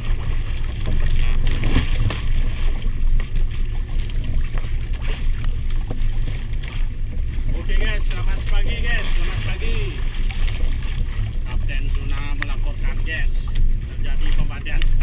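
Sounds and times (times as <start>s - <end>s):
boat engine rumbling: 0.0s - 15.0s
water: 0.0s - 15.0s.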